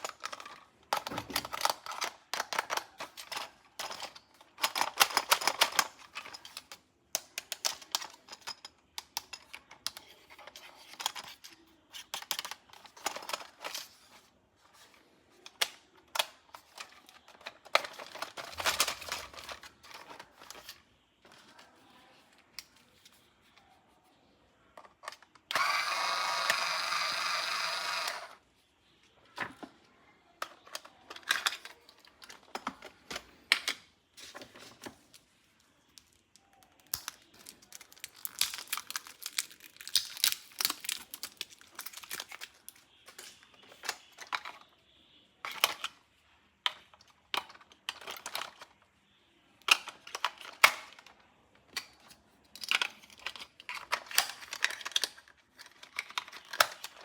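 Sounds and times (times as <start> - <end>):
plastic toy parts clicking: 0.0 - 21.9, 24.7 - 28.4, 30.3 - 33.9, 35.9 - 44.7, 45.4 - 46.0, 46.6 - 48.8, 49.6 - 57.0.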